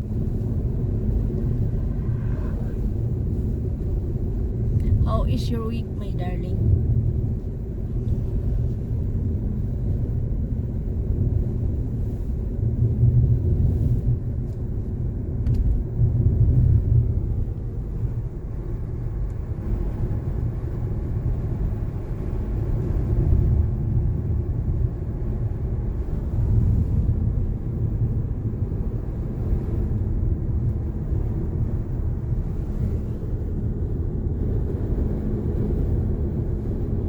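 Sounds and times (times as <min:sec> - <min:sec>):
car road rumble inside cabin: 0:00.0 - 0:37.0.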